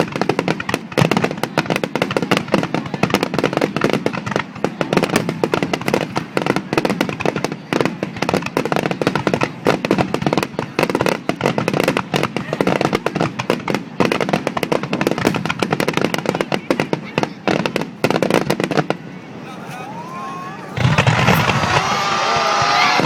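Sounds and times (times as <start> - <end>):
fireworks bursts and crackles: 0.0 - 23.0.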